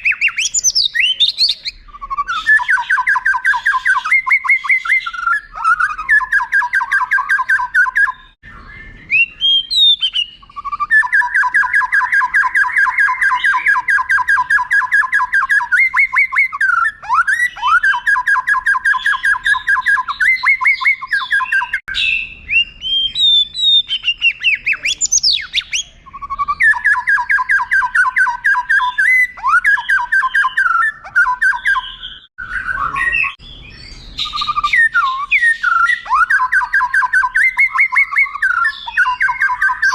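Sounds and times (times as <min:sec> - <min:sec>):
bird singing rapid rolls: 0:00.0 - 0:39.9
bird whistles: 0:00.0 - 0:39.9.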